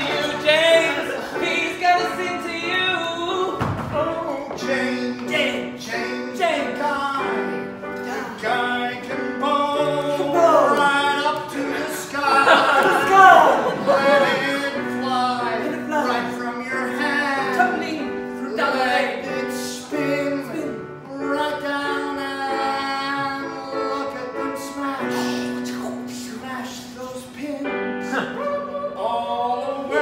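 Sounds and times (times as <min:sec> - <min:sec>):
man singing: 0:00.0 - 0:30.0.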